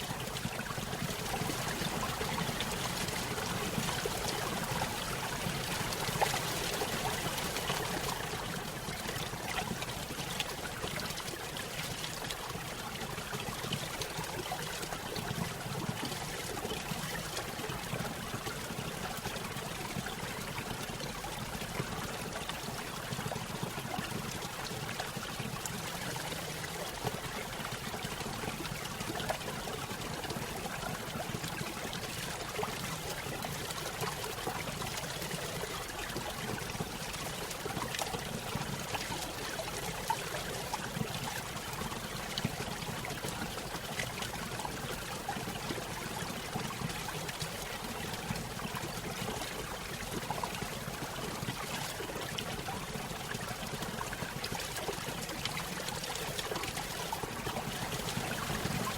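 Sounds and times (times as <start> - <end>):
water trickling and splashing: 0.0 - 58.9.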